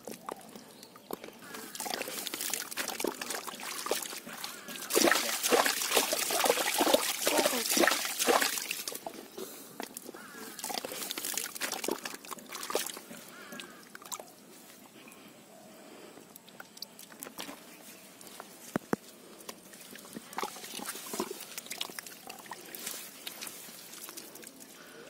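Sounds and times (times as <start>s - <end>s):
hand squelching through wet mud: 0.0s - 14.8s, 16.4s - 24.9s.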